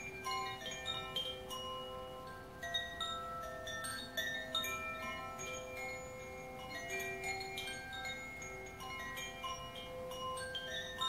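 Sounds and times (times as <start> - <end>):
wind chime ringing notes: 0.0 - 11.0.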